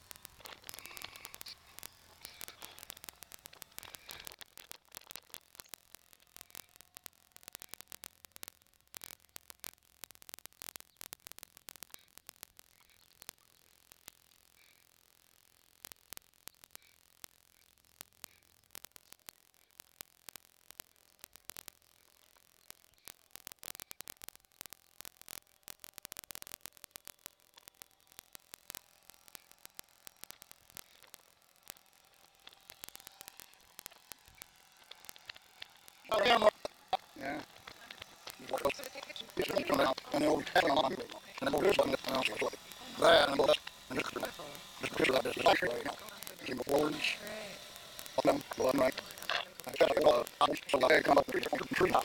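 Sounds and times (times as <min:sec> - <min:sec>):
low hiss: 0:00.0 - 0:09.9, 0:10.5 - 0:52.0
crackling static clicks: 0:00.0 - 0:52.0.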